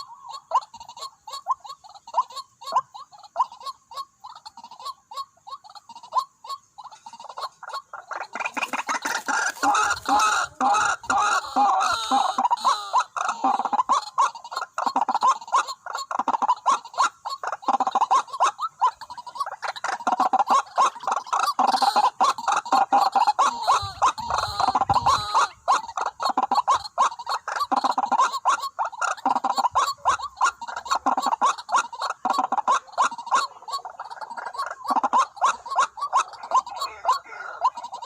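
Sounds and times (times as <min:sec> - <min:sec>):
waterhens croaking: 0:00.0 - 0:38.0.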